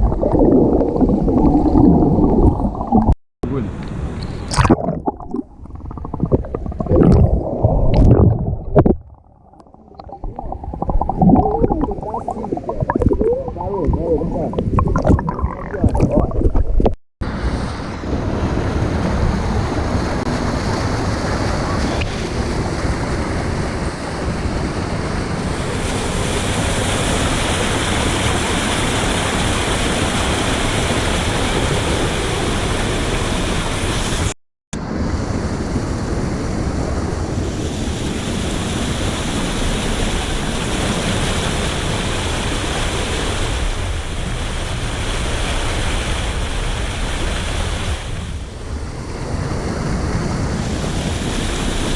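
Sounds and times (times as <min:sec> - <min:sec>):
water rushing into a pool: 0:00.0 - 0:03.2, 0:04.4 - 0:17.9, 0:18.8 - 0:34.4, 0:37.6 - 0:48.4.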